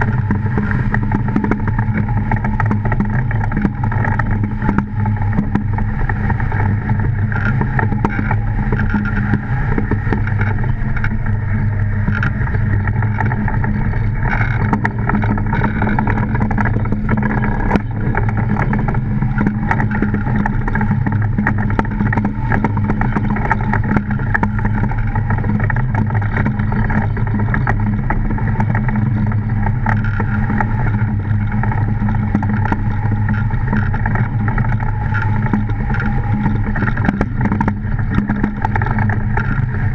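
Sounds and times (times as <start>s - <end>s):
fine crackle: 0.0s - 39.9s
iceboat runners droning over ice: 0.0s - 39.9s.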